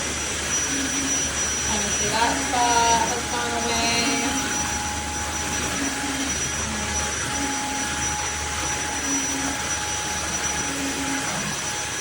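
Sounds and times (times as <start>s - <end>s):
floor cleaner motor whine: 0.0s - 12.0s.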